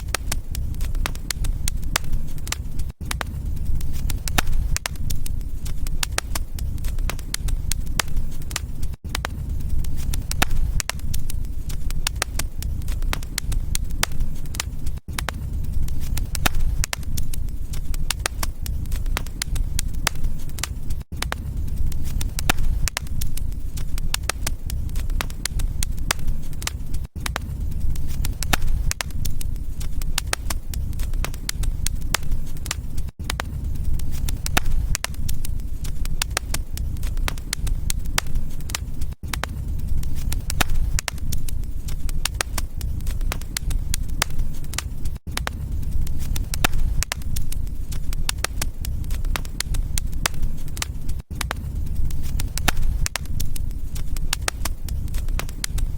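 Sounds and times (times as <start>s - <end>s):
low rumble of flame: 0.0s - 55.9s
wood fire crackling: 0.0s - 55.9s.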